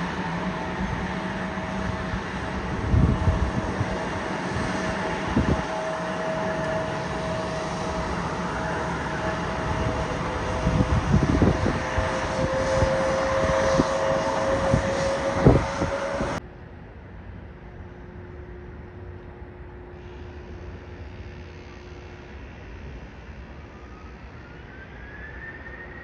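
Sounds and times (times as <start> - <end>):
airplane engines whining: 0.0 - 26.0.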